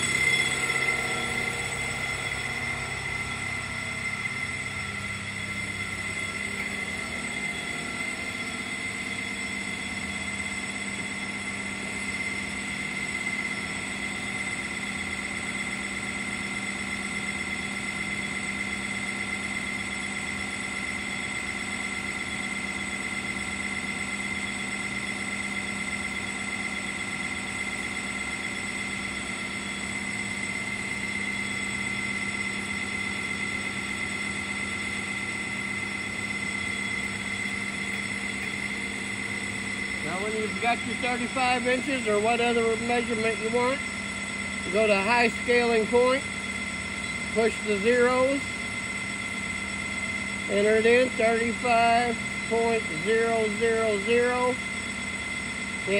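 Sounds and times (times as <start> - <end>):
machinery hum with high whine: 0.0 - 55.9.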